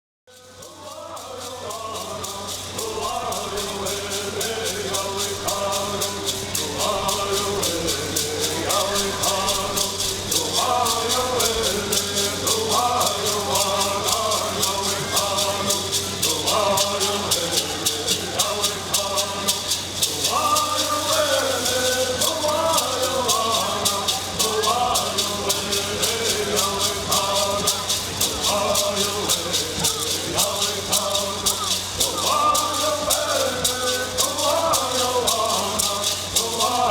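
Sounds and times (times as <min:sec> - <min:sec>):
voices singing: 0:00.3 - 0:36.9
rattles shaking: 0:00.4 - 0:36.9.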